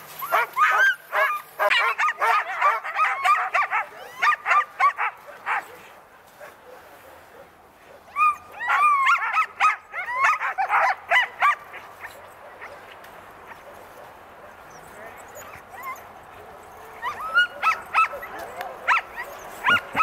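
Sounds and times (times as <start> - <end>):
dogs' drawn-out cries: 0.0 - 20.0
sled dogs barking and yipping: 0.0 - 20.0.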